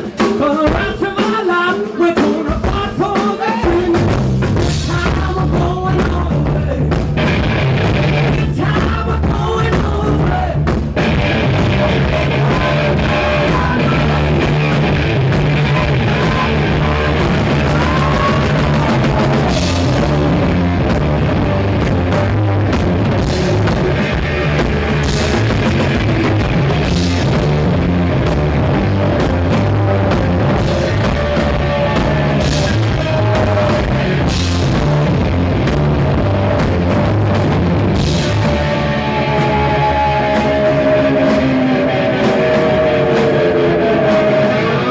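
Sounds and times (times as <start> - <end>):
distorted electric guitar: 0.0 - 44.9
drum kit with crashing cymbals: 0.0 - 44.9.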